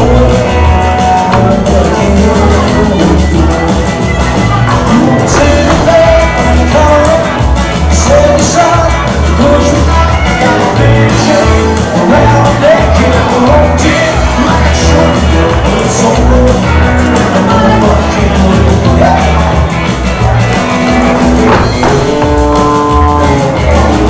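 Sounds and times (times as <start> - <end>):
man singing: 0.0 - 19.8, 21.1 - 24.0
electric guitar: 0.0 - 24.0
upright bass notes: 0.0 - 24.0.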